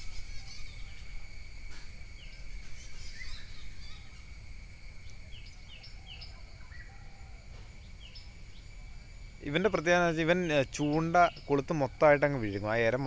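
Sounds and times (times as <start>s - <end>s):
bird chirping: 0.0s - 4.4s, 5.0s - 7.2s, 7.8s - 8.8s, 9.4s - 12.8s
crickets trilling: 0.0s - 13.0s.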